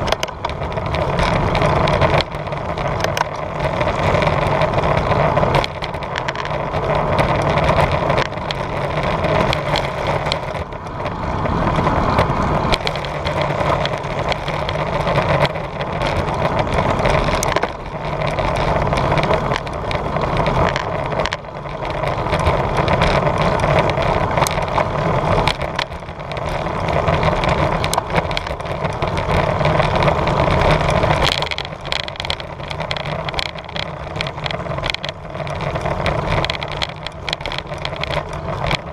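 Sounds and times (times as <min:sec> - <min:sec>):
sharp clicks and rattles: 0:00.0 - 0:38.9.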